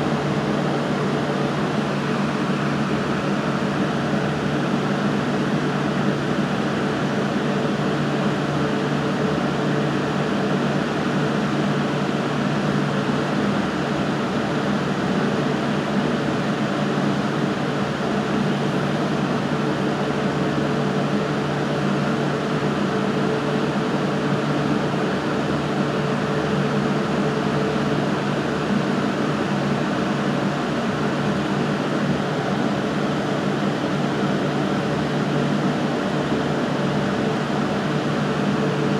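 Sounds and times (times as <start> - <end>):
mechanical hum with hiss: 0.0 - 38.9.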